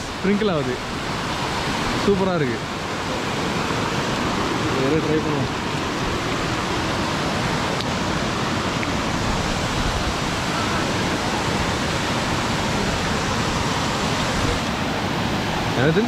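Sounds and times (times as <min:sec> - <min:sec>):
waterfall crashing down: 0:00.0 - 0:16.0.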